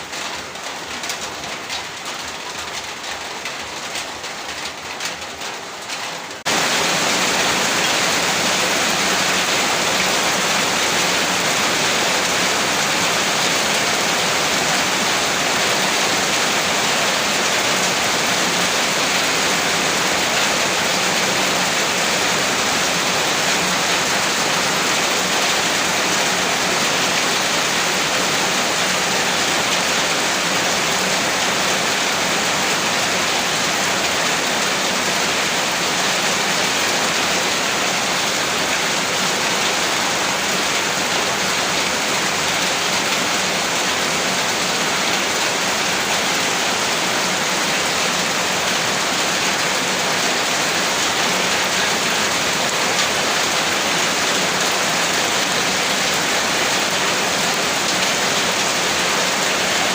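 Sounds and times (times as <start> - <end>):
heavy rain hiss: 6.4 - 59.9.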